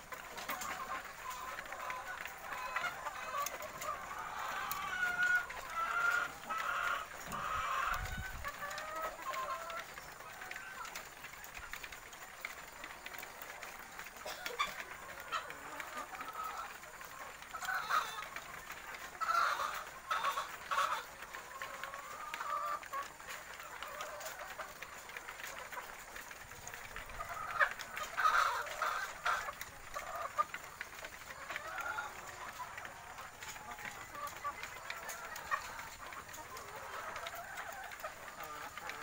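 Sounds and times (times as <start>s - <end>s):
hens clucking: 0.0s - 39.0s.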